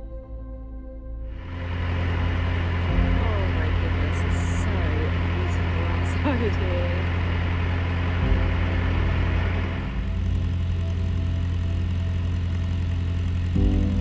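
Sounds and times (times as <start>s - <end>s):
boat engine droning: 1.4s - 14.0s.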